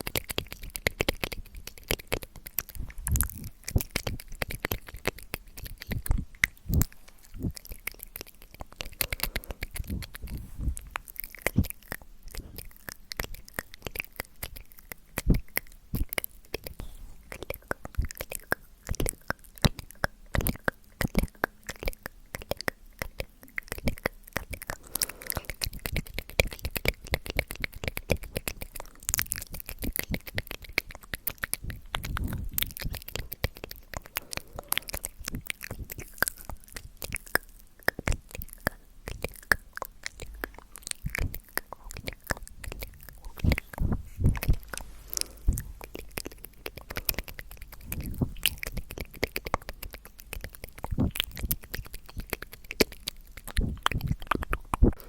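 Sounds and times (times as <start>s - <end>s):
wet mouth clicks and smacks: 0.0s - 55.0s.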